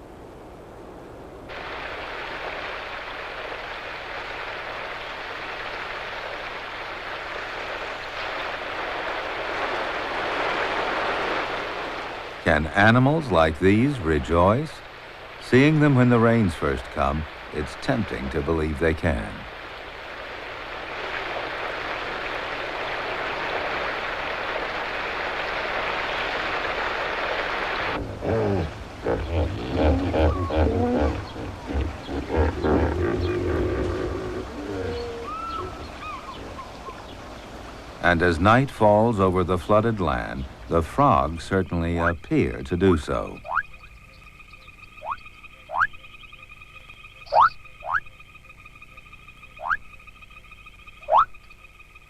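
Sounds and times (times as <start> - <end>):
heavy rain falling: 1.5 - 43.4.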